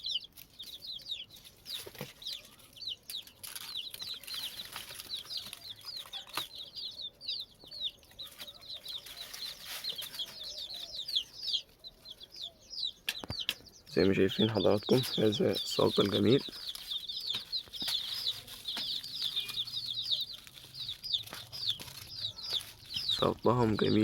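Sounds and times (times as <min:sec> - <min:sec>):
chicks peeping in distress: 0:00.0 - 0:24.0.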